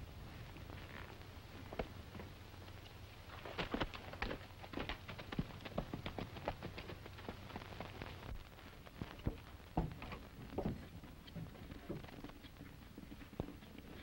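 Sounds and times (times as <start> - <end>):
horse hooves on dirt: 0.5 - 14.0.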